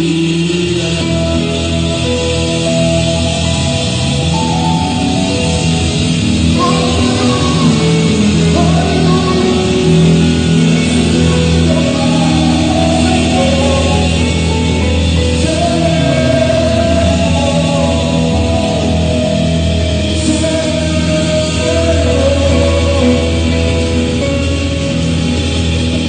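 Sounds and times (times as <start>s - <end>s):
band with guitar: 0.0s - 26.0s
person singing: 0.0s - 26.0s.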